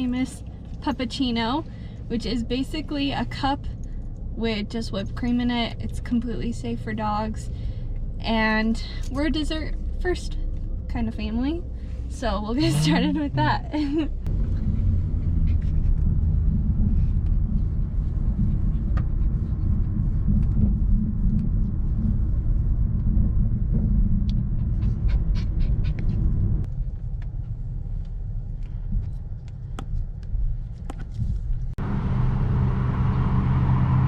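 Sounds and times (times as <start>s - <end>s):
road and engine rumble: 0.0s - 34.0s.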